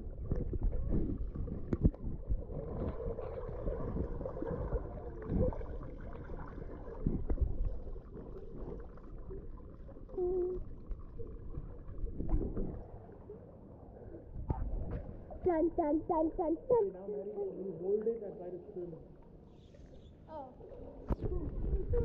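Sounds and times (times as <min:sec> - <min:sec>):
underwater rumbling and gurgling: 0:00.0 - 0:17.0, 0:19.0 - 0:22.0.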